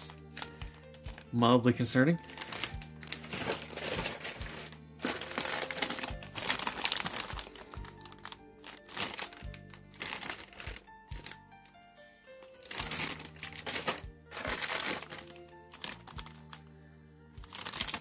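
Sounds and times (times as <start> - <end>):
plastic bags crinkling: 0.0 - 11.4, 12.6 - 16.7, 17.4 - 18.0
background music: 0.0 - 18.0.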